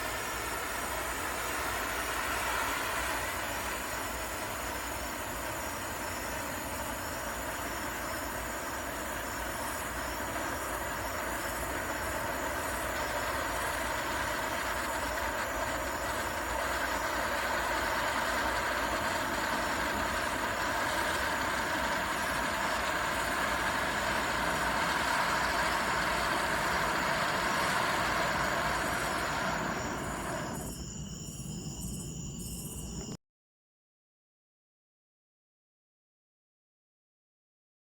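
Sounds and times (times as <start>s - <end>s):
firework pinwheel hissing: 0.0s - 32.7s.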